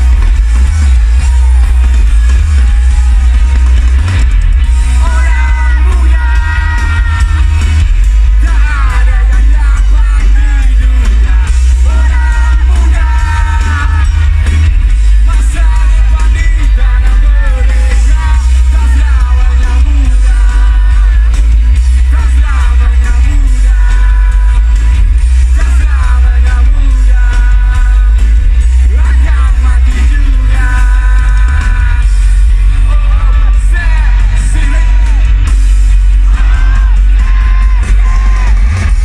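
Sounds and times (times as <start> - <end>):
live band music: 0.0 - 39.0
person singing: 0.0 - 39.0.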